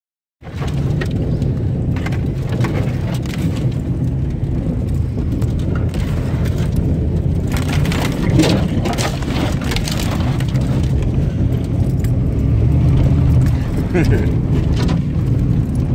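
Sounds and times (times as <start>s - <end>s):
vehicle engine and tyres rumbling: 0.4s - 15.9s.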